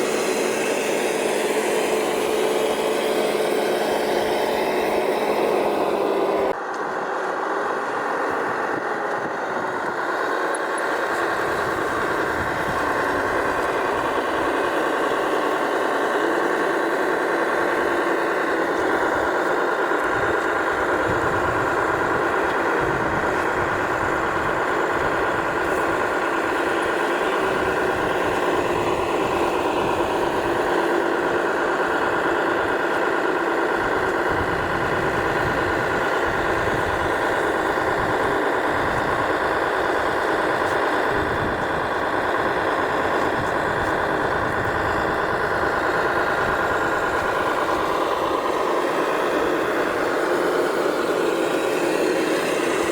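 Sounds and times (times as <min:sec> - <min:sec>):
electric drive and hydraulic pump whine: 0:00.0 - 0:52.9.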